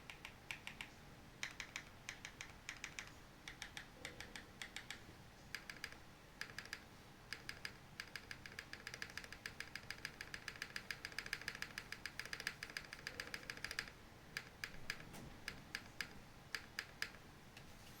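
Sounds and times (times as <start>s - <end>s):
mechanical keyboard typing: 0.0s - 17.2s.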